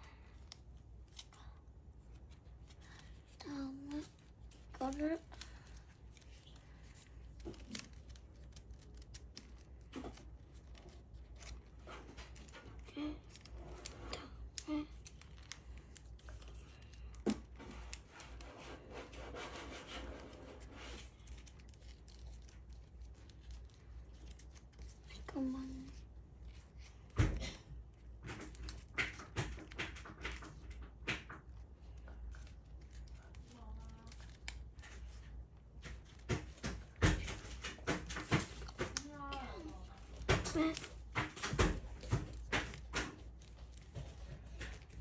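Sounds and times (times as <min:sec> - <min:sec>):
paper rustling as folded: 0:00.0 - 0:45.0.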